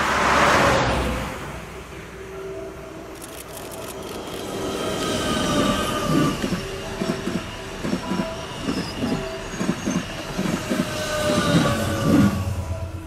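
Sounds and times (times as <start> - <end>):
electric train whine: 1.2 - 13.0.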